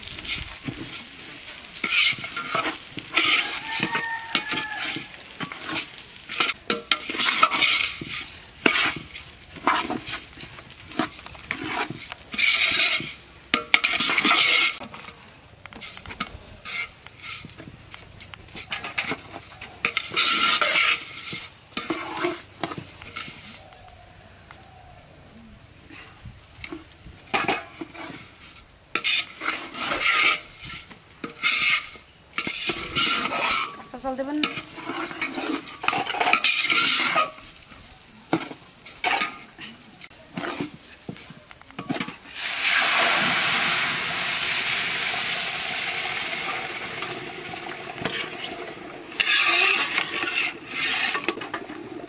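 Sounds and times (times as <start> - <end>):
food stirred in pot: 0.0 - 52.0
loud sizzling: 0.0 - 52.0.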